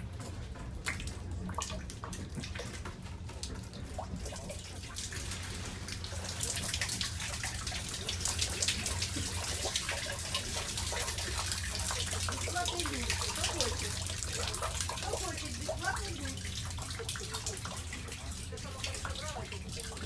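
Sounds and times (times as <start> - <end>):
water pouring and dripping: 0.0 - 20.0.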